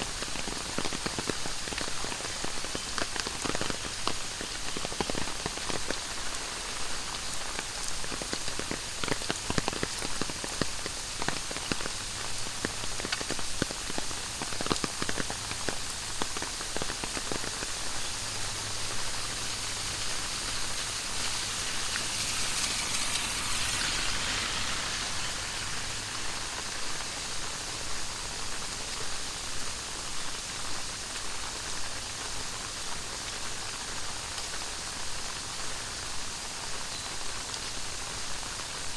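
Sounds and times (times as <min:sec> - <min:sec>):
heavy rain falling: 0:00.0 - 0:38.9
raindrops splashing on surfaces: 0:00.0 - 0:38.9.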